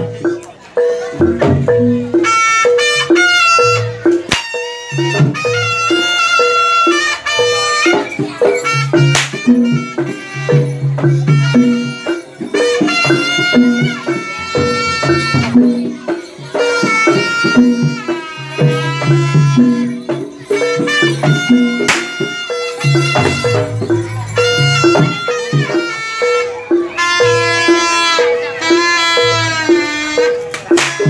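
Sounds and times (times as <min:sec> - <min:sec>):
drum strokes: 0:00.0 - 0:31.0
metallophone notes: 0:00.0 - 0:31.0
reed wind instrument melody: 0:00.0 - 0:31.0.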